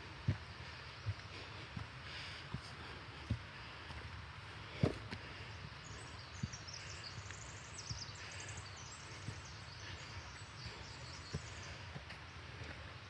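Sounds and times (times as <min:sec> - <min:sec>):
footsteps on forest trail: 0:00.1 - 0:13.0.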